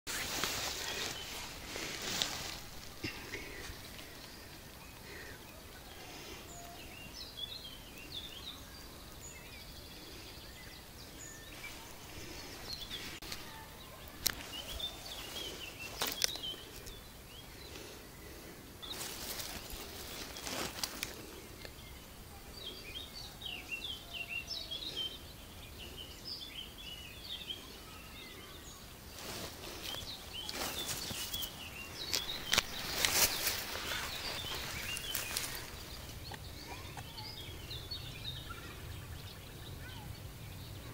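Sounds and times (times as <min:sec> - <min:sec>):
small birds chirping: 0:00.1 - 0:40.9.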